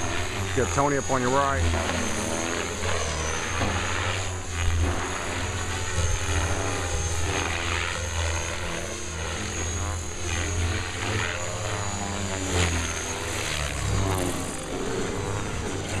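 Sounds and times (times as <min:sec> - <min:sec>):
helicopter rotor blade noise: 0:00.0 - 0:16.0
high-pitched motor whine: 0:00.0 - 0:16.0.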